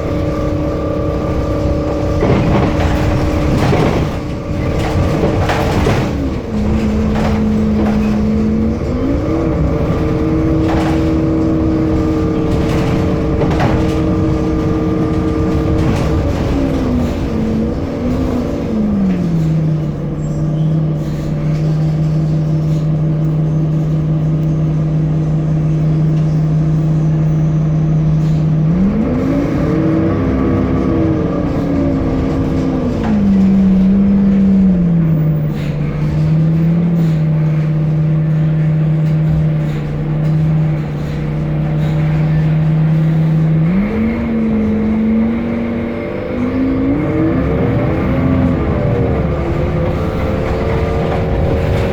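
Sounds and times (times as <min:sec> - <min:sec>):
bus diesel engine running: 0:00.0 - 0:51.9.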